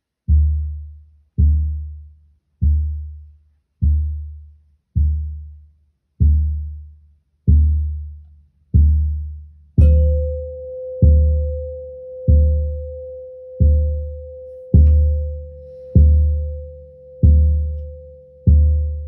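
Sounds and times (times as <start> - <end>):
deep drum beats: 0.3 - 5.6, 6.2 - 8.2, 8.8 - 19.0.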